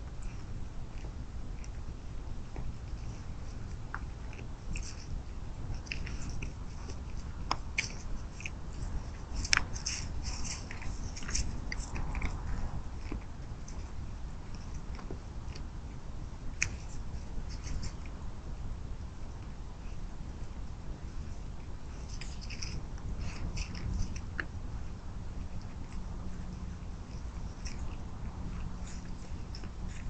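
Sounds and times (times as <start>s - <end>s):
deer crunching corn: 0.0s - 30.0s.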